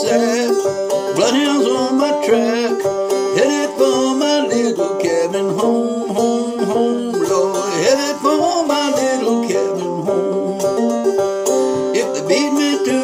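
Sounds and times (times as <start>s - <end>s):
banjo plucked notes: 0.0s - 13.0s.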